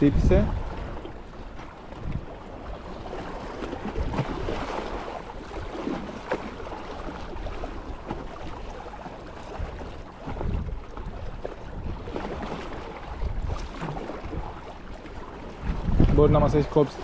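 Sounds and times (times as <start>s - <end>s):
sea water lapping: 0.0s - 17.0s
wind buffeting microphone: 0.0s - 17.0s.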